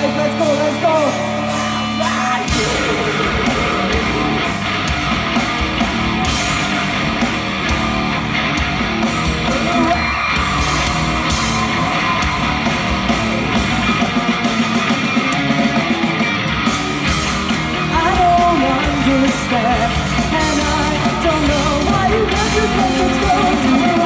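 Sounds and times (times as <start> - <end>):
heavy rock band playing: 0.0 - 24.0.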